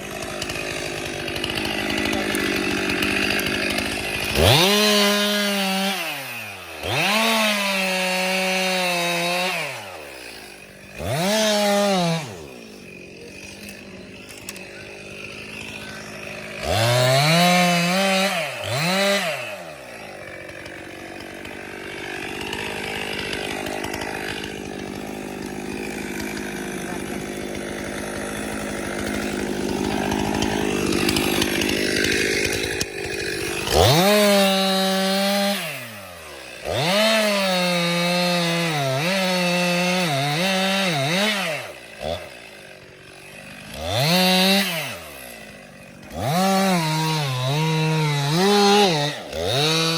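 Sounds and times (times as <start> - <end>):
chainsaw cutting wood: 0.0 - 49.9
chainsaw revving: 0.0 - 49.9.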